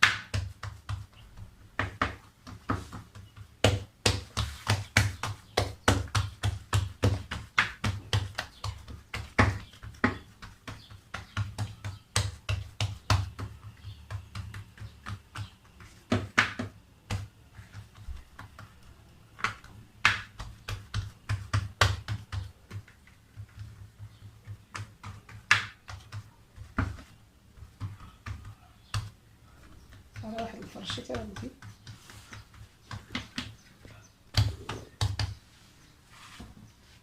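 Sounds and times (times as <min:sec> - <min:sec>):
hands working dough in tray: 0:00.0 - 0:37.0.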